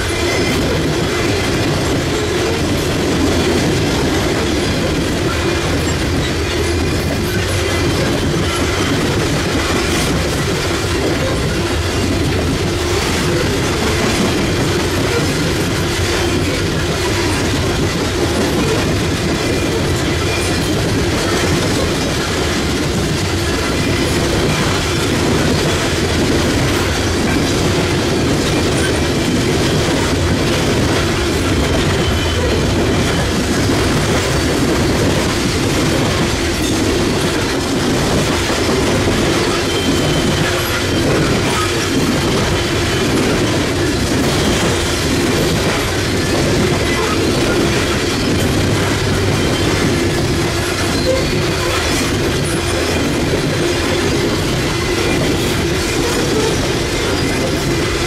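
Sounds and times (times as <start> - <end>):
train wheels rolling on rails: 0.0 - 58.0
wheels clicking over rail joints: 0.0 - 58.0.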